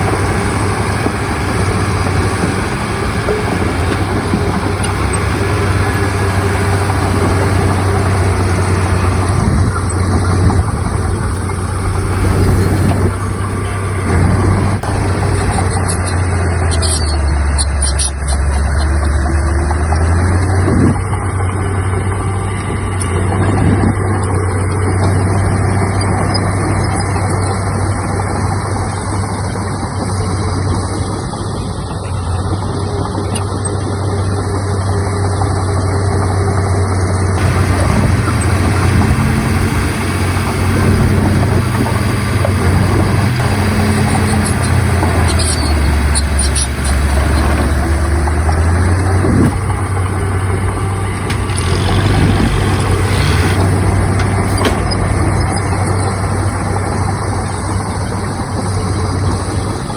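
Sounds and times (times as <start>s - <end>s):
heavy diesel machinery droning: 0.0s - 59.9s.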